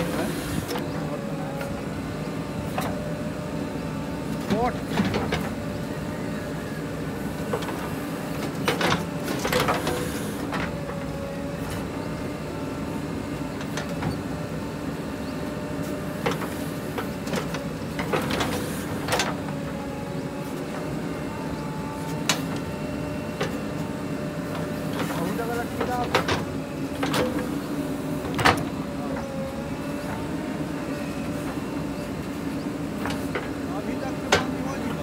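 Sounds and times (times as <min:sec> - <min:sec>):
diesel engine running under load: 0:00.0 - 0:35.0
hydraulics whining: 0:00.0 - 0:35.0.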